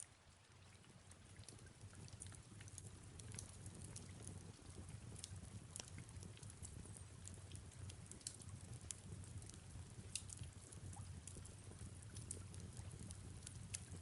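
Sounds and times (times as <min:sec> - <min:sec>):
soft rain: 0:00.0 - 0:14.0
wood fire crackling: 0:01.2 - 0:14.0.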